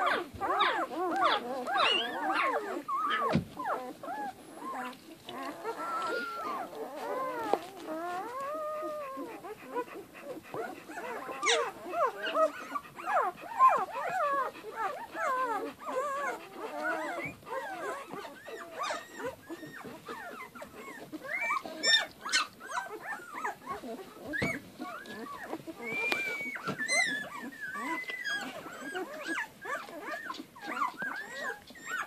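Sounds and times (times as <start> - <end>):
puppies squeaking and whimpering: 0.0 - 32.0
puppies squealing: 0.0 - 32.0.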